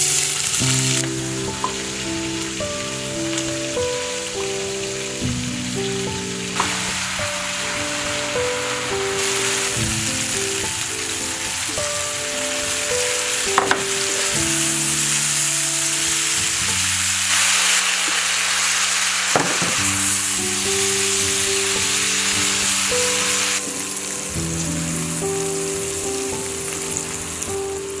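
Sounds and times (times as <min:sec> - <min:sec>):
food sizzling in a pan: 0:00.0 - 0:28.0
soft background music: 0:00.0 - 0:28.0.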